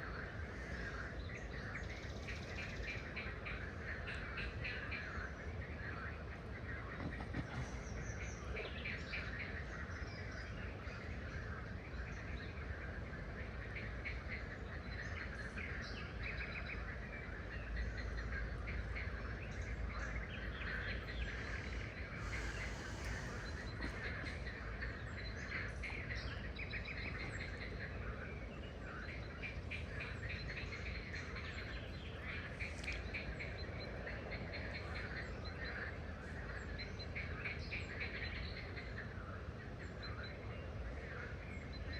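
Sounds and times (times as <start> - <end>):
songbirds chirping: 0.0 - 41.9
steady low rumble: 0.0 - 41.9.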